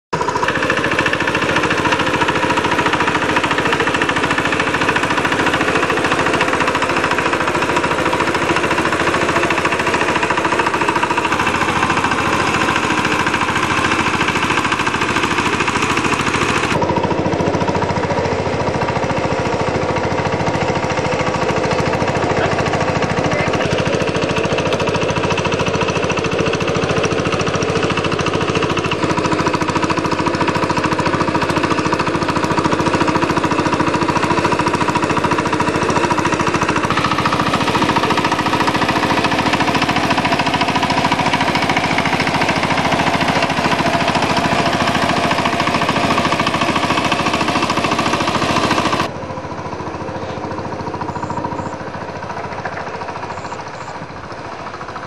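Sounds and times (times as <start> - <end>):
tiller engine chugging: 0.1 - 55.0.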